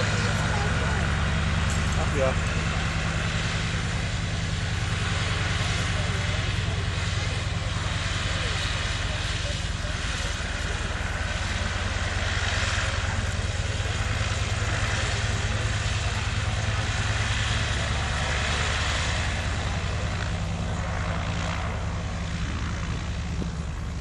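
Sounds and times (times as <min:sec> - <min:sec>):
biplane radial engine running: 0:00.0 - 0:24.0.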